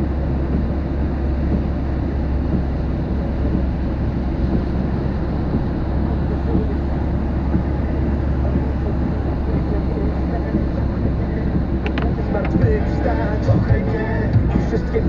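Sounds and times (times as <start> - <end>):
storm wind on microphone: 0.0 - 15.0.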